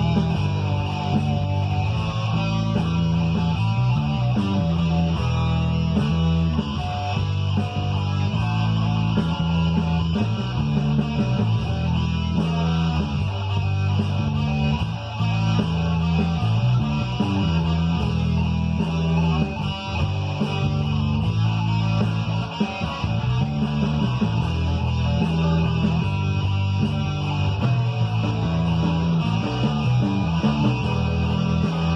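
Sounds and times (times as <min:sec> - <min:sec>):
guitar playing: 0:00.0 - 0:31.9
rock backing track: 0:00.0 - 0:31.9.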